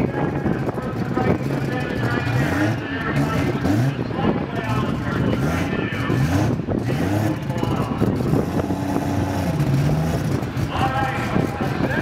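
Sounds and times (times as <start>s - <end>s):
voices: 0.0s - 8.7s, 10.6s - 12.0s
car engines revving: 0.0s - 12.0s.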